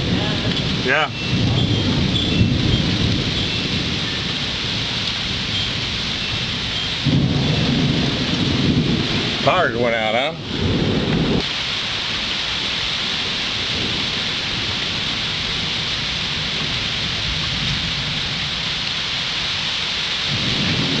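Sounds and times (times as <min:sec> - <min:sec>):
thunder rumbling: 0:00.0 - 0:11.5, 0:13.1 - 0:21.0
heavy rain pouring: 0:00.0 - 0:21.0.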